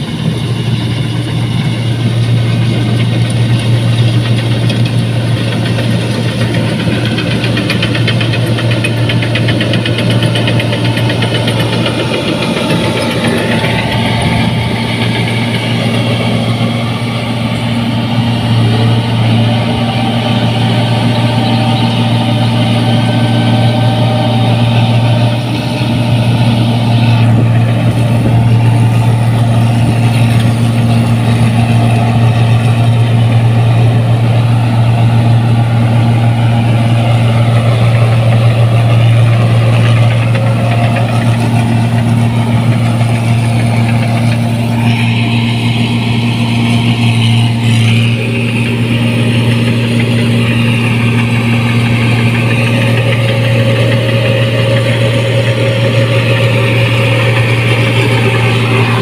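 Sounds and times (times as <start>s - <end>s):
combine harvester engine droning: 0.0s - 59.0s
threshing machinery working: 0.0s - 59.0s.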